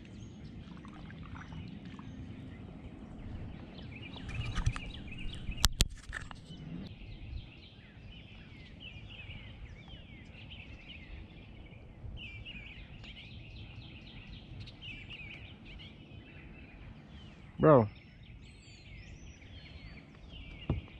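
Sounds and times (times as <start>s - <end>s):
low background rumble: 0.0s - 20.9s
songbirds chirping and singing: 0.0s - 20.9s.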